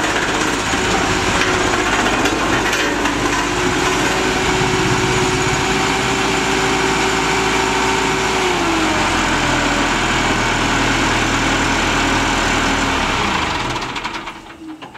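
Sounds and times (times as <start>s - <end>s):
diesel compactor engine running: 0.0s - 14.9s.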